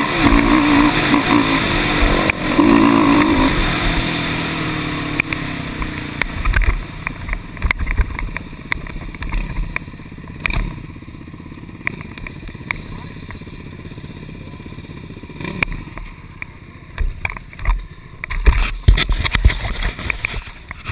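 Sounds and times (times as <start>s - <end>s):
atv engine burbling: 0.0s - 20.9s.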